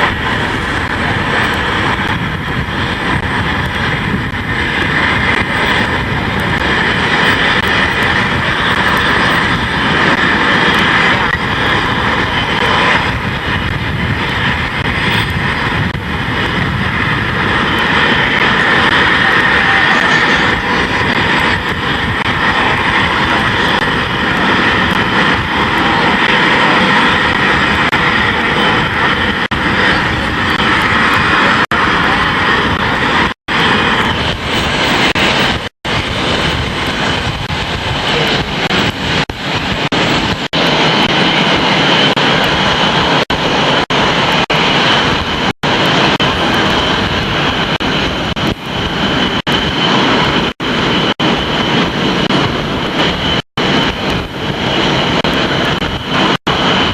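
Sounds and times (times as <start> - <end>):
jet engine roar: 0.0 - 56.9.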